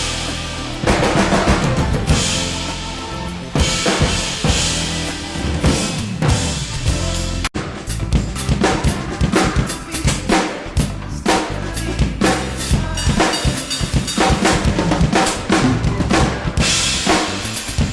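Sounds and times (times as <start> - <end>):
low bass notes: 0.0 - 13.3, 14.4 - 17.9
drum kit groove: 0.0 - 17.9.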